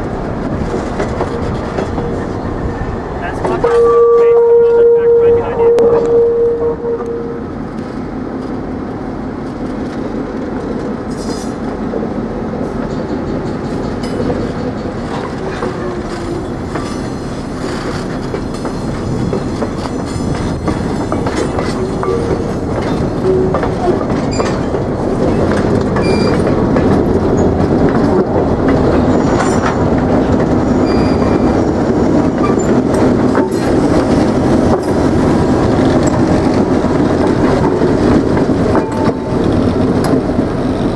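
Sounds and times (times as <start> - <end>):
train wheels clacking over rail joints: 0.1 - 2.5, 9.4 - 11.9, 12.5 - 40.9.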